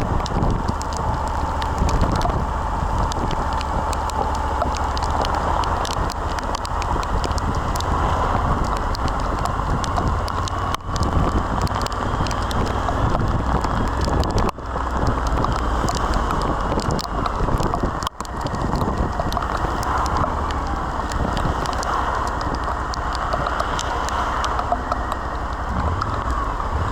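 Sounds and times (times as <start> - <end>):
raindrops ticking on microphone: 0.0 - 26.9
wind rumbling over microphone: 0.0 - 26.9.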